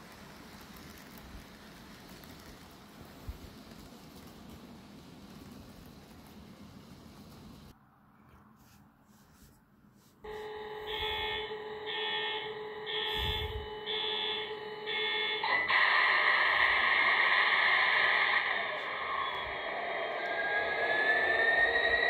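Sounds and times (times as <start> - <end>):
model locomotive engine sound: 0.0 - 7.7, 10.3 - 22.0.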